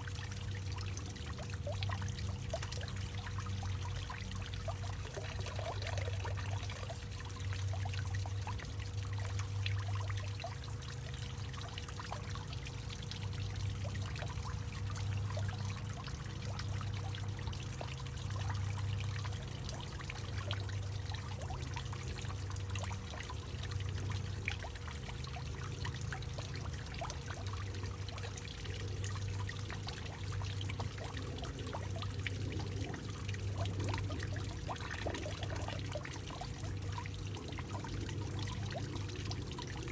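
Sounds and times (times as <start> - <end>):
small water splashes: 0.0 - 39.9
water trickling through tree trunk: 0.0 - 39.9.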